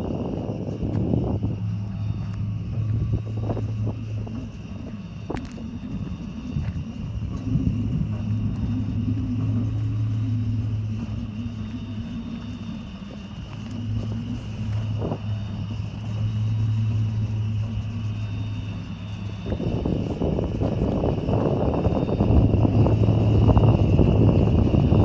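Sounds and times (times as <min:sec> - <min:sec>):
pumpjack motor hum: 0:00.0 - 0:25.0.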